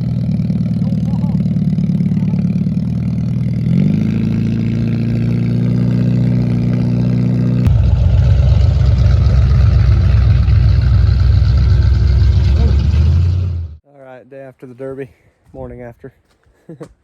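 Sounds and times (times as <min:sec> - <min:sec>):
rough low engine: 0:00.0 - 0:13.8
vehicle engine running: 0:00.0 - 0:13.8.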